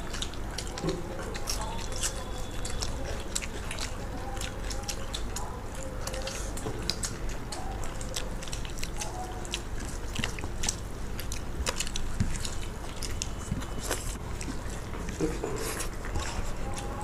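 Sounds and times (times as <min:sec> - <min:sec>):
mouth clicks and smacks: 0:00.0 - 0:17.0
people chewing: 0:00.0 - 0:17.0.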